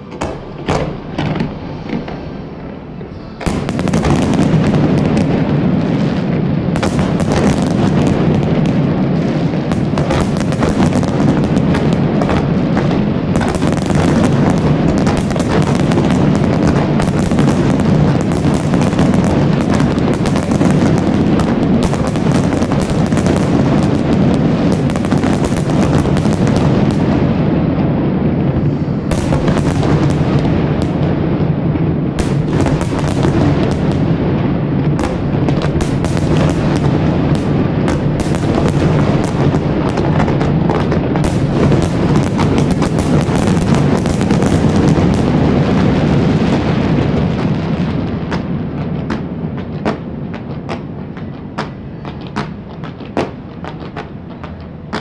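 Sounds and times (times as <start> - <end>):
fireworks bangs and crackle: 0.0 - 55.0.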